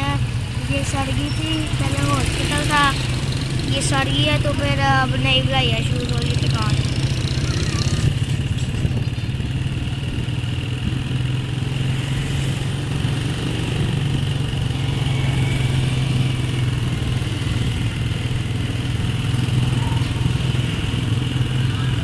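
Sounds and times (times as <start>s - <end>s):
motorcycle engine running: 0.0s - 22.0s
street traffic hum: 0.0s - 22.0s.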